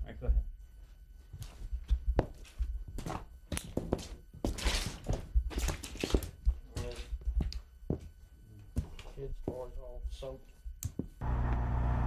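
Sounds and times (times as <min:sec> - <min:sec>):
scuffing steps: 0:00.7 - 0:11.2.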